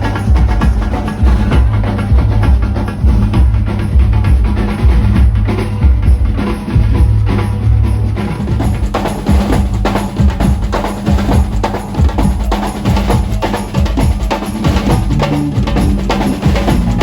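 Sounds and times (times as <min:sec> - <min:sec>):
live percussion with bass drum: 0:00.0 - 0:17.0.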